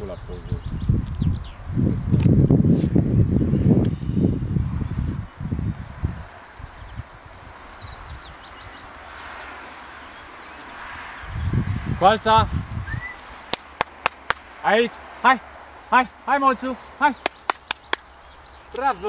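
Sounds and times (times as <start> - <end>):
insects chirping trill: 0.0 - 19.0.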